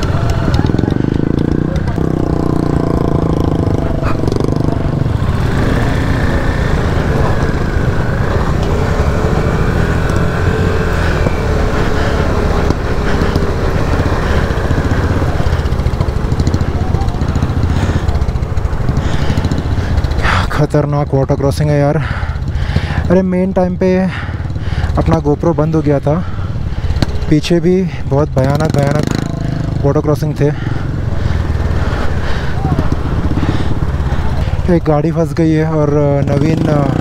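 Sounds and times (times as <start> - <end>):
motorcycle engines at low revs: 0.0 - 37.0.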